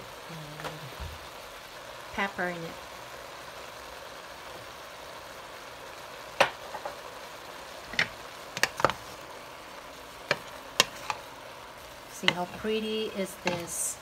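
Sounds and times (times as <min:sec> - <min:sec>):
vegetables sizzling in a pot: 0:00.0 - 0:14.0.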